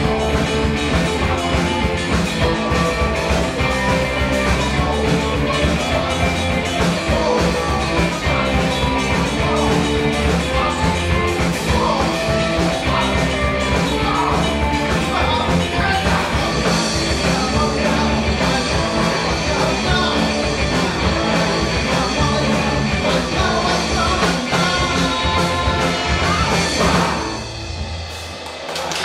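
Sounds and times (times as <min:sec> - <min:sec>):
bass guitar: 0:00.0 - 0:29.0
drum kit: 0:00.0 - 0:29.0
electric guitars: 0:00.0 - 0:29.0.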